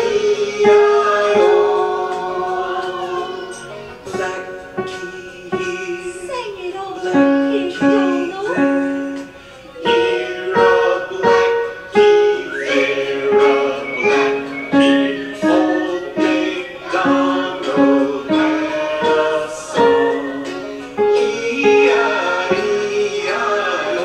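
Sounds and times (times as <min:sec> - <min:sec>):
grand piano slow melody: 0:00.0 - 0:24.0.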